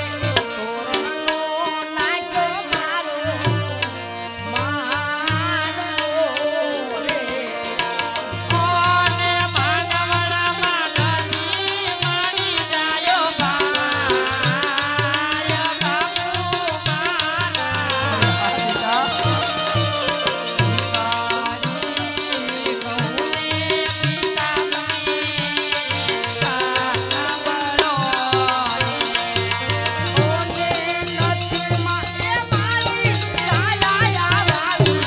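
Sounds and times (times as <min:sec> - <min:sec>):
harmonium: 0:00.0 - 0:35.0
person singing: 0:00.0 - 0:35.0.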